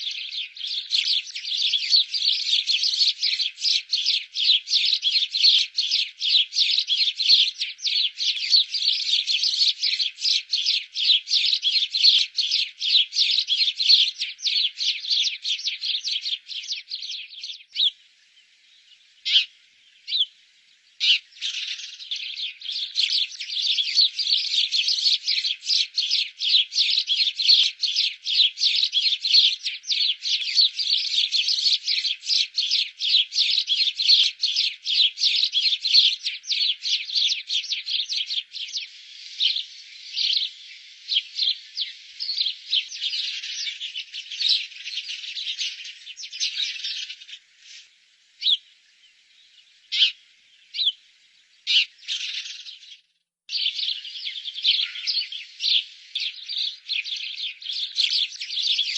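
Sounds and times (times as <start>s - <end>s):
sparrow chirping: 0.0s - 58.9s.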